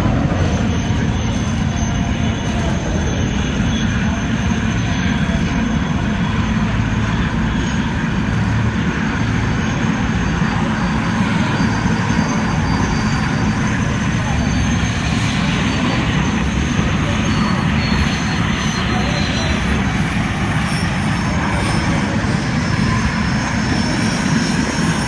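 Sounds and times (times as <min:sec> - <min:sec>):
helicopters flying past: 0:00.0 - 0:25.0.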